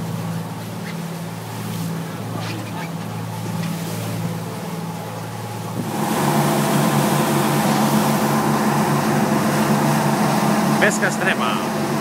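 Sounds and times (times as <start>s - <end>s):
boat engine running: 0.0s - 12.0s
churning wake water rushing: 0.0s - 12.0s.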